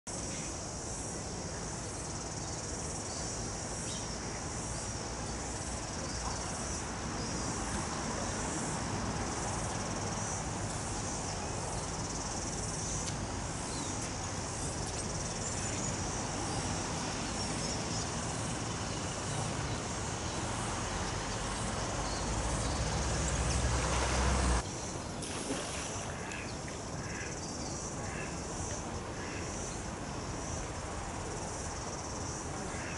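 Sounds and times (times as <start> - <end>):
insects trilling: 0.1 - 32.9.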